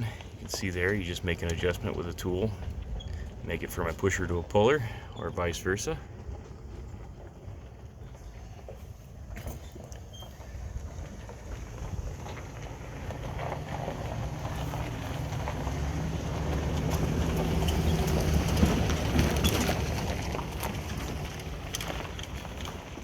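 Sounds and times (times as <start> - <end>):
vehicle engine rumbling past: 0.0 - 23.0.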